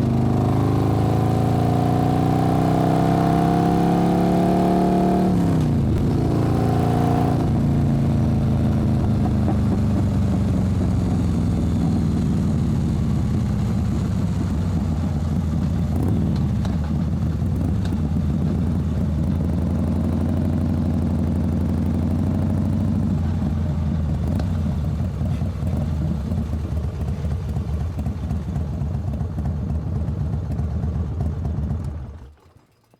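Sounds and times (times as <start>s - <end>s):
motorcycle engine deep rumble: 0.0s - 32.3s.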